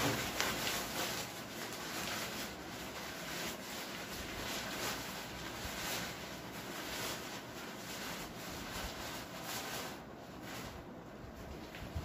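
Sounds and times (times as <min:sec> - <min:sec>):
tent fabric rustling: 0:00.0 - 0:12.0.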